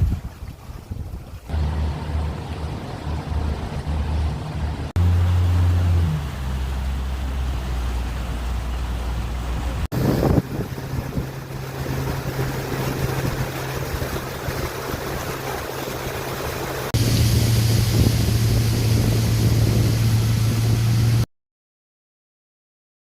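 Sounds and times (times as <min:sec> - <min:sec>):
motorboat engine hum: 0:00.0 - 0:21.3
wind and water rushing: 0:00.0 - 0:21.3.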